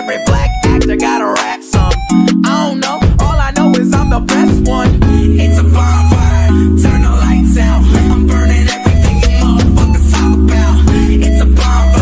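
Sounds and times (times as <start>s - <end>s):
hip hop music with singing: 0.0s - 12.0s.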